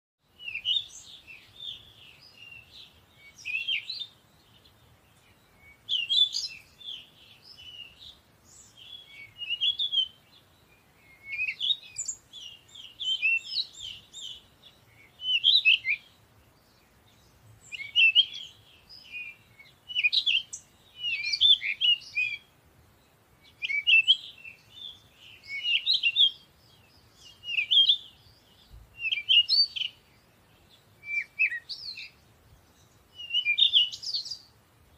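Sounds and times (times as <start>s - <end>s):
songbird twittering: 0.3s - 34.9s.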